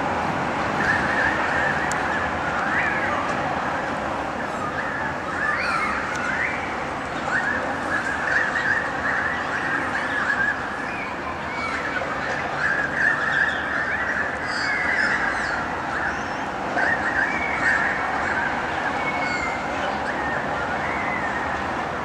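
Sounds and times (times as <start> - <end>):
flock of birds chirping: 0.8 - 22.0.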